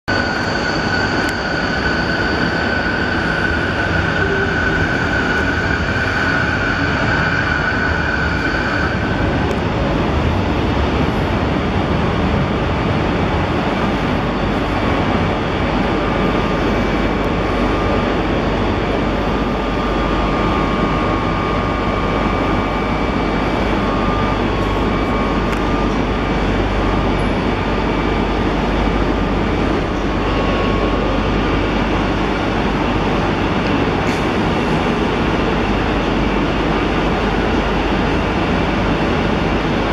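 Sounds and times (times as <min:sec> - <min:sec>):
electric train rumble: 0:00.0 - 0:39.9
train wheel squeal: 0:00.1 - 0:10.2, 0:14.9 - 0:39.9
faint high whines: 0:00.1 - 0:39.9.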